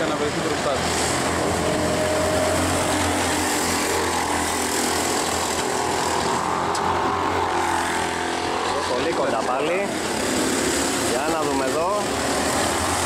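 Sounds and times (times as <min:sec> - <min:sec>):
go-kart engines buzzing: 0:00.0 - 0:13.0.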